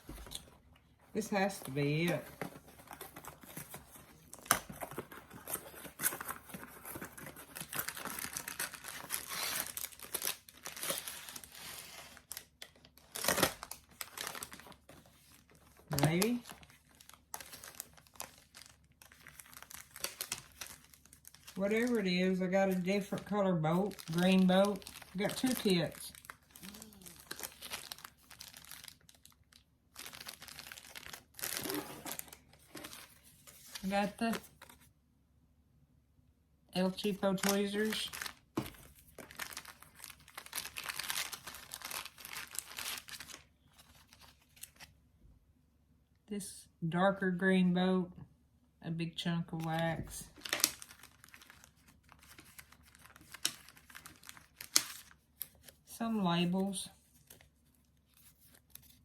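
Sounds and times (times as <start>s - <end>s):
packaging crinkling and tearing: 1.8s - 34.8s, 37.0s - 44.9s, 50.3s - 55.9s, 57.0s - 59.0s.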